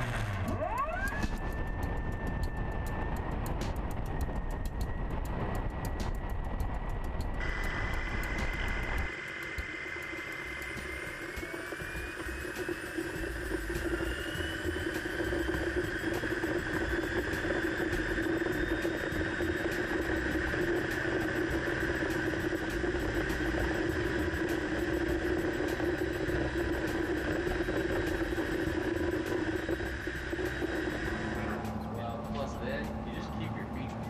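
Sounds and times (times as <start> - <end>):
electric motor and propeller humming: 0.0 - 34.0.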